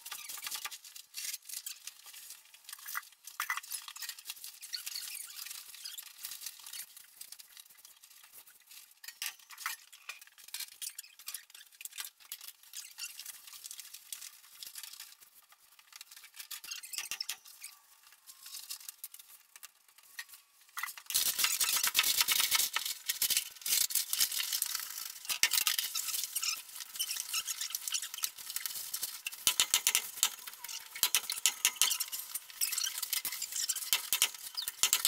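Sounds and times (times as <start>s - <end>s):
tar paper rustling and crinkling: 0.1s - 9.1s, 10.2s - 35.0s.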